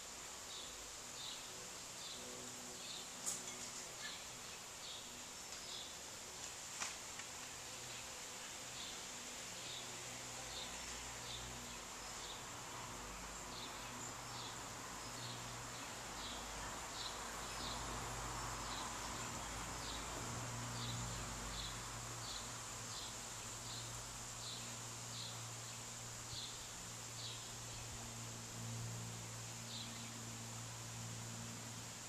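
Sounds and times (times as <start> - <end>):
faint insect chirp: 0.0 - 32.0.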